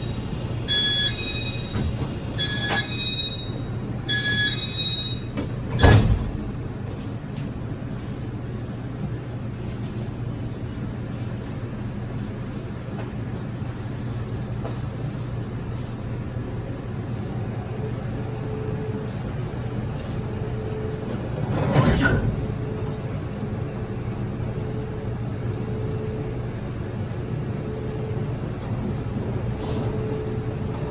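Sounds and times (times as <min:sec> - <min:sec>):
train running rumble: 0:00.0 - 0:30.9.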